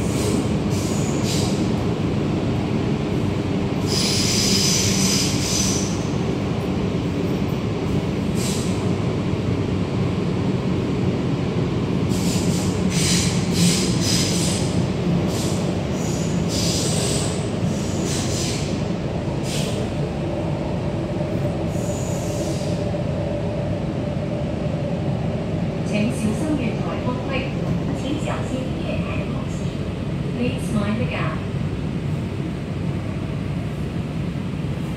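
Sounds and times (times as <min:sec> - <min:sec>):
train low rumble: 0:00.0 - 0:34.9.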